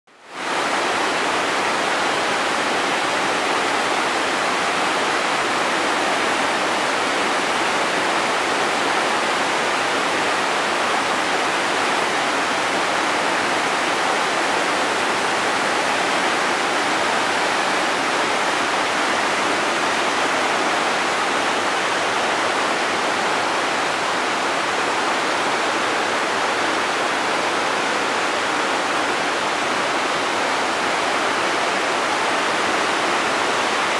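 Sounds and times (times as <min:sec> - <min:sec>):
whitewater rushing over rocks: 0:00.2 - 0:33.9.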